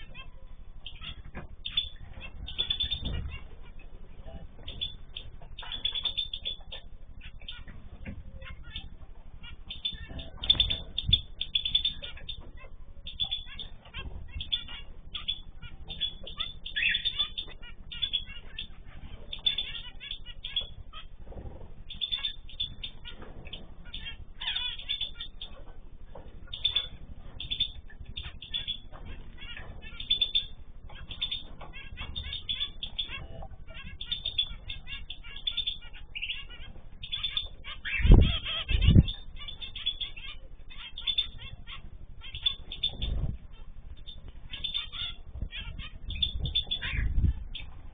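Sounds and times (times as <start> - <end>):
cage birds chirping: 0.0 - 47.9.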